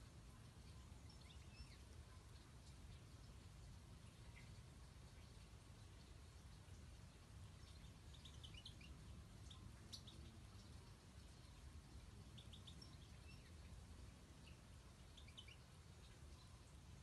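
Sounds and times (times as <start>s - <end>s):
low steady background rumble: 0.0s - 17.0s
goldfinches chirping and twittering: 0.4s - 17.0s.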